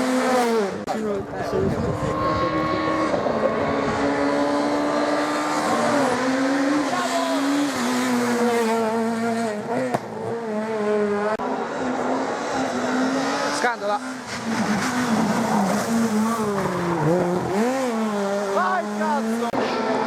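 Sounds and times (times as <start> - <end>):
rally car engine shifting gears: 0.0 - 20.0.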